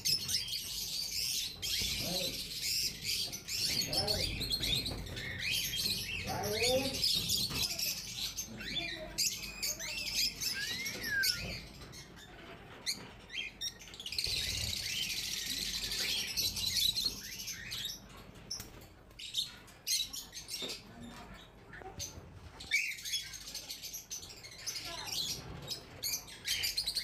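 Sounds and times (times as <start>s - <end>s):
parakeets chirping and calling: 0.0s - 27.0s.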